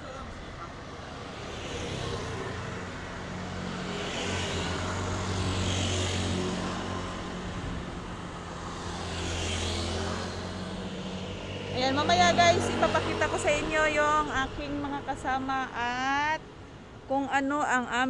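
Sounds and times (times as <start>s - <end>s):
vehicles passing by: 0.0s - 18.0s.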